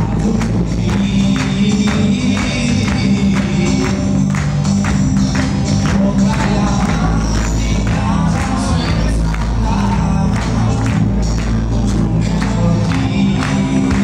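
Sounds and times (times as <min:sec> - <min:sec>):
live band playing dance music: 0:00.0 - 0:14.0.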